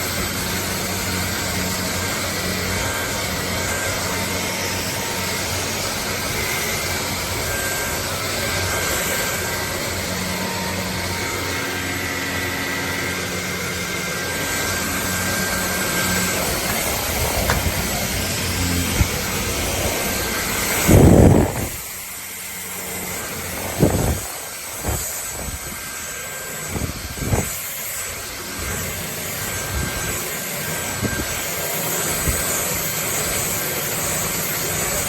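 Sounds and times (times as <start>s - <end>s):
vacuum cleaner whirring: 0.0s - 35.0s.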